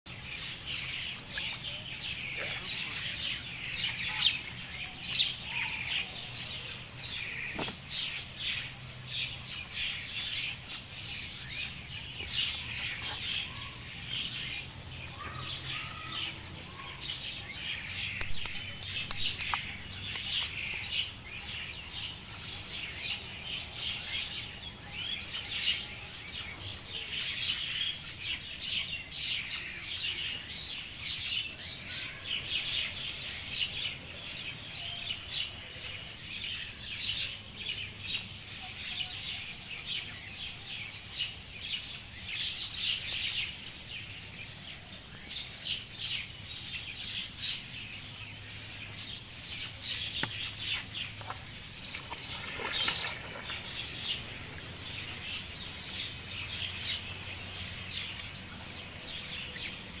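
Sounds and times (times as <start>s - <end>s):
birds chirping: 0.1s - 60.0s.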